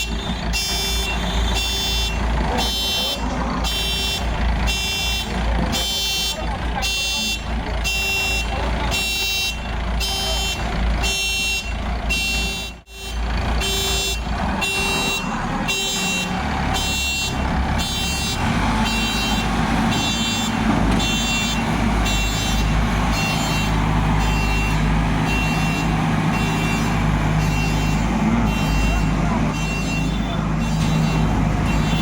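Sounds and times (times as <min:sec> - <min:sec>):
diesel engine under load: 0:00.0 - 0:32.0
reversing alarm beeps: 0:00.0 - 0:32.0.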